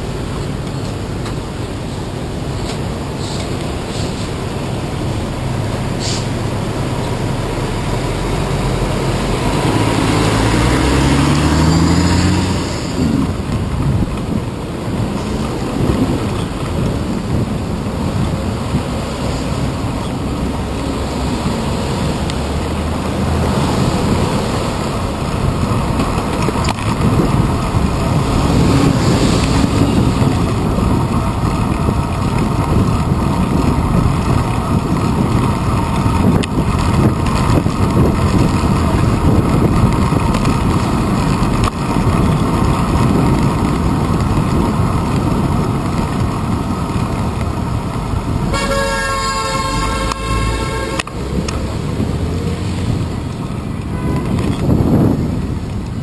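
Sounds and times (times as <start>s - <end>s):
road rumble: 0.0s - 56.0s
wind noise: 0.0s - 56.0s
vehicle engine accelerating: 4.1s - 56.0s.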